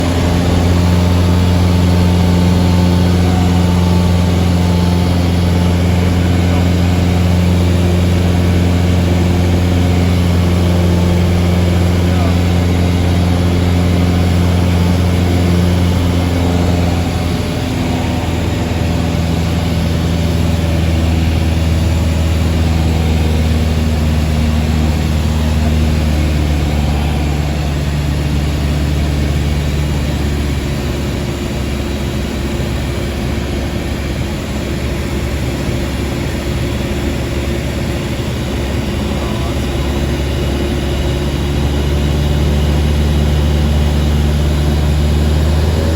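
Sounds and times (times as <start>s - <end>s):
propeller aircraft engine droning: 0.0s - 45.9s.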